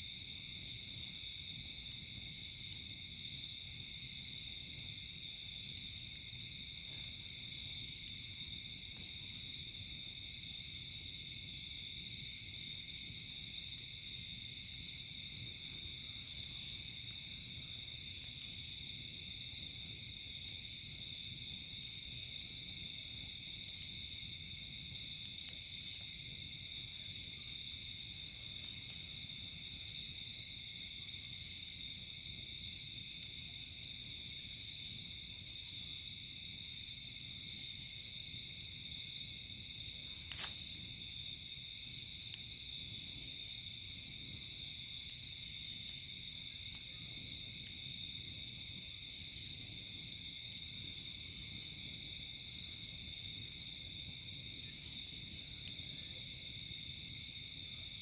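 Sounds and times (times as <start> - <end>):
campfire popping: 0.0 - 58.0
night insects trilling: 0.0 - 58.0.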